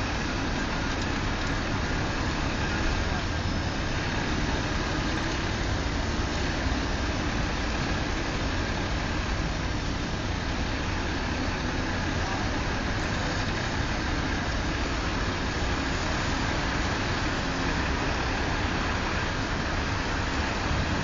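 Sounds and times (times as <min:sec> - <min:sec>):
engines running: 0:00.0 - 0:21.0.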